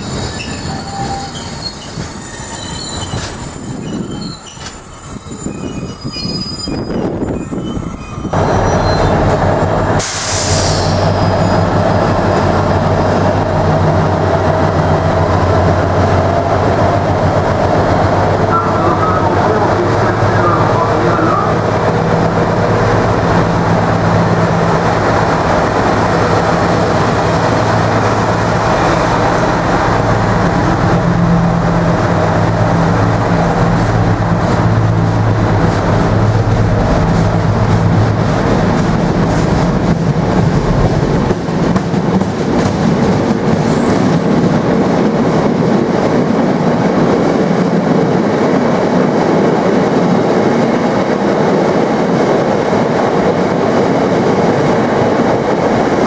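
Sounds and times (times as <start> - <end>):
locomotive engine droning: 0.0 - 56.0.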